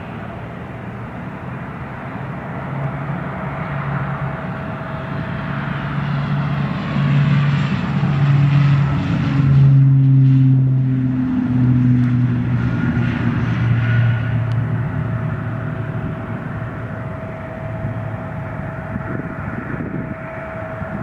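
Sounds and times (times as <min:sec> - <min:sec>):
airliner passing by: 0:00.0 - 0:21.0.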